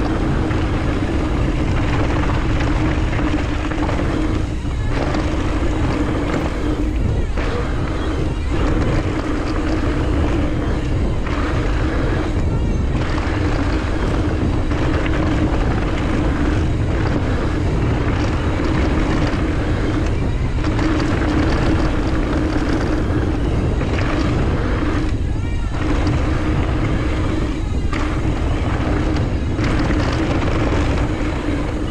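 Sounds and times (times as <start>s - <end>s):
bike rolling on dirt trail: 0.0s - 31.9s
steady hum: 0.0s - 31.9s
wind buffeting microphone: 0.0s - 31.9s.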